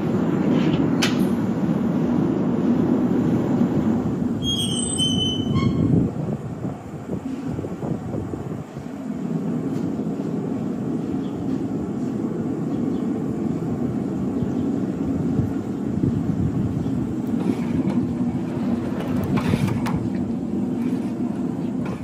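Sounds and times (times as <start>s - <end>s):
workshop machinery rumbling: 0.0s - 22.0s.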